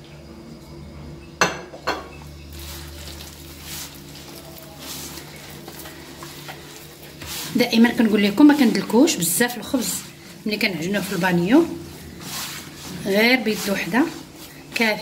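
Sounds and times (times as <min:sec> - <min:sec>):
dough squishing and scraping: 0:02.4 - 0:15.0.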